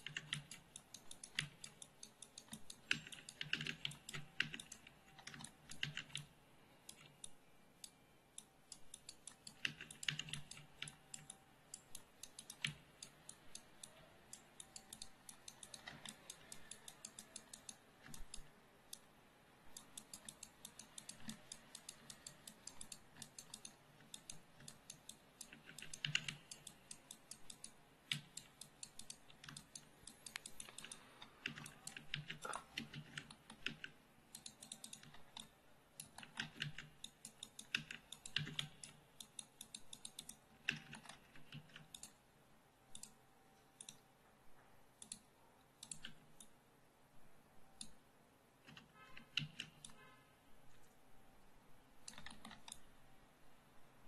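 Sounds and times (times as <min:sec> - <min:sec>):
keyboard and mouse clicking: 0:00.0 - 0:46.6, 0:47.6 - 0:51.2, 0:52.0 - 0:53.0.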